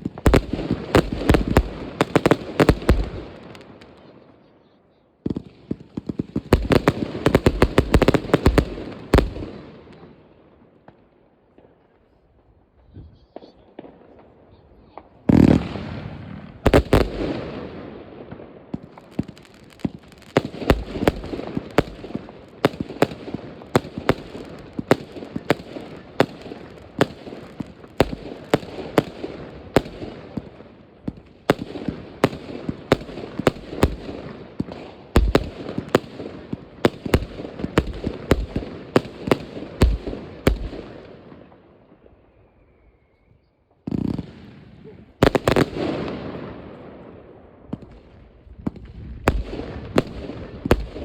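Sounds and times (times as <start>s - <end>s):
firework bangs: 0.0s - 4.0s, 5.2s - 10.2s, 13.3s - 41.6s, 43.8s - 51.0s
fireworks crackling and rumbling: 0.0s - 42.3s, 43.7s - 51.0s.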